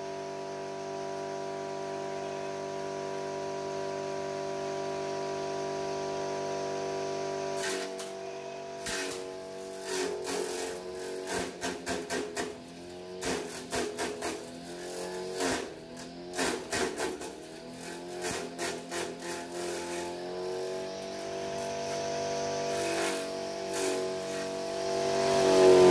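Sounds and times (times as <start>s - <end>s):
chaff cutter motor hum: 0.0s - 25.9s.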